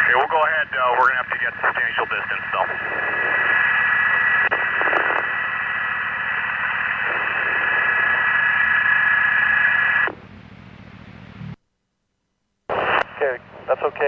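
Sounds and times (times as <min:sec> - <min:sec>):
radio static hiss: 0:00.0 - 0:10.2, 0:12.6 - 0:14.0.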